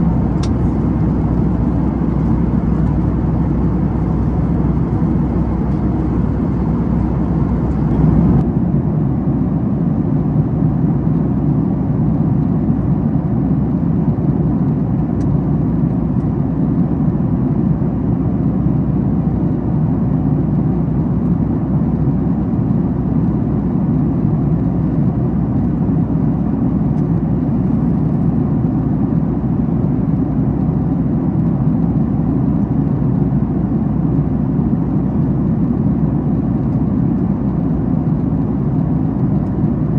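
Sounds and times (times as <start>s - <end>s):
airplane cabin airflow and engine drone: 0.0s - 39.9s.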